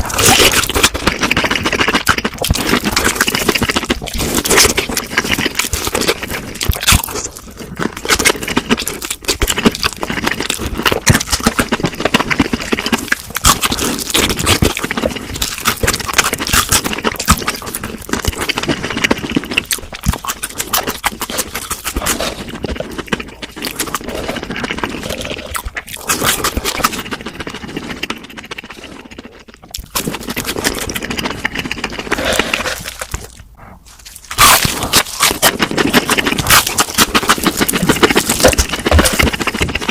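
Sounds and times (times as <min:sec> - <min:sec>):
chewing crispy food: 0:00.0 - 0:39.9.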